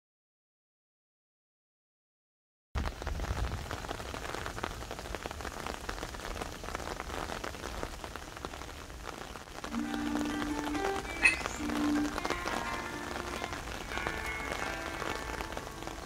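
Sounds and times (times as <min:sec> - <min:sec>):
steady rain falling: 0:02.8 - 0:16.0.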